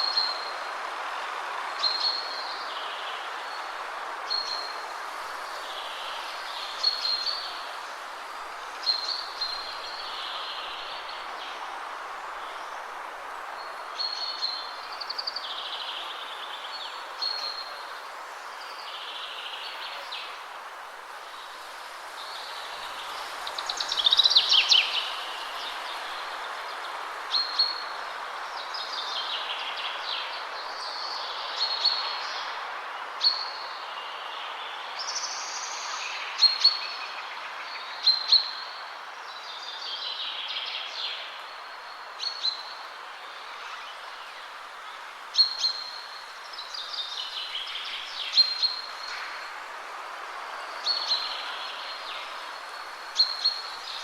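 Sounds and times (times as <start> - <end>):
wind through trees: 0.0 - 54.0.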